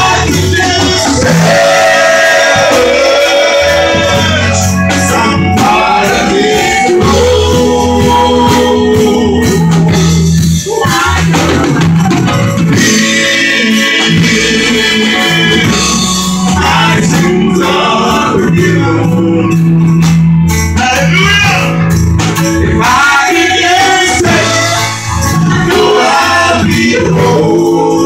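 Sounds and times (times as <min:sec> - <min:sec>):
singers on microphones: 0:00.0 - 0:20.1, 0:22.4 - 0:28.0
drums: 0:00.0 - 0:28.0
keyboard: 0:00.0 - 0:28.0.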